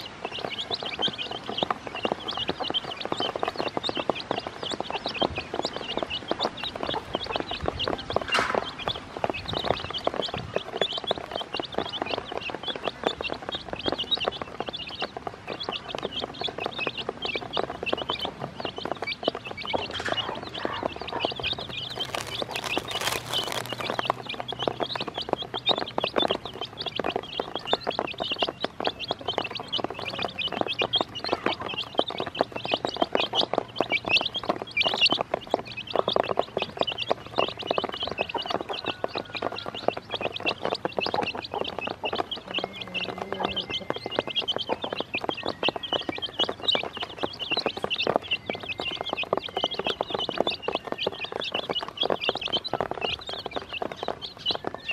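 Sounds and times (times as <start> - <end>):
beaks pecking on plastic: 0.0 - 54.9
chicks peeping: 0.0 - 54.9.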